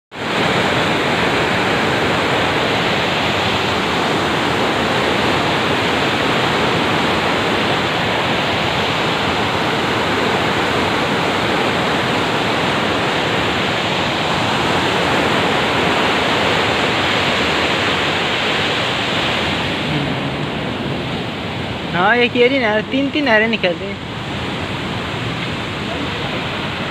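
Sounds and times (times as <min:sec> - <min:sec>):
water rushing through gates: 0:00.1 - 0:26.9.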